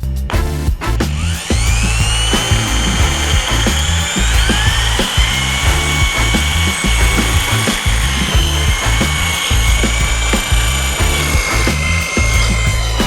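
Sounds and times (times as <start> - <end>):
background music with beat: 0.0 - 13.0
electric drill whining: 1.1 - 13.0.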